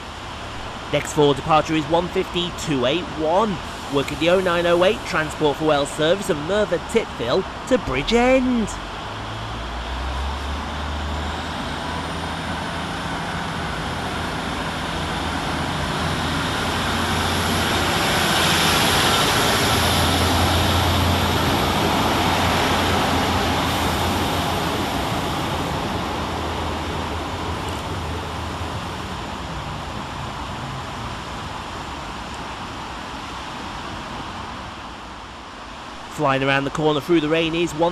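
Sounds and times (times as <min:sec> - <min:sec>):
diesel train passing: 0:00.0 - 0:37.8.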